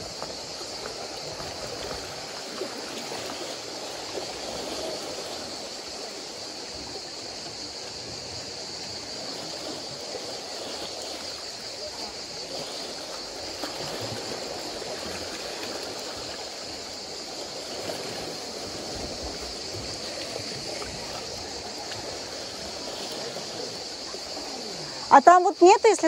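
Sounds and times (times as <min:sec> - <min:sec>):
sea waves lapping over rocks: 0:00.0 - 0:26.0.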